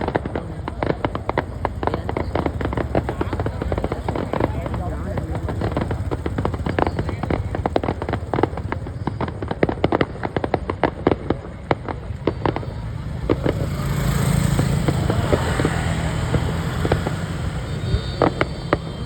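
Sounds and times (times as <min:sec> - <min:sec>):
fireworks crackling and popping: 0:00.0 - 0:19.0
vehicle engine: 0:00.0 - 0:19.0.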